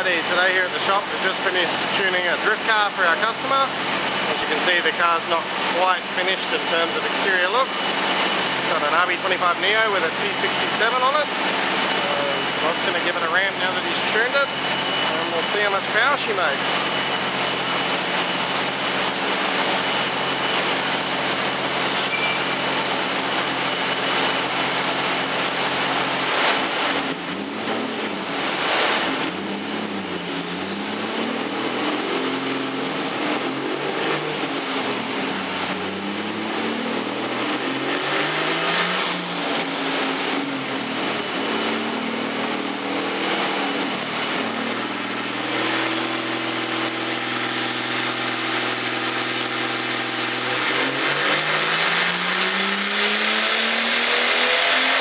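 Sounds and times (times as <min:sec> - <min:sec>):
car engine running on dyno: 0:00.0 - 0:55.0
high whine: 0:00.0 - 0:55.0.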